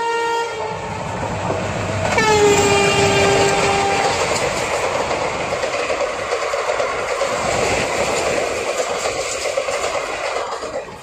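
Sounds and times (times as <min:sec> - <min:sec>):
train wheels rattling on rails: 0:00.6 - 0:11.0.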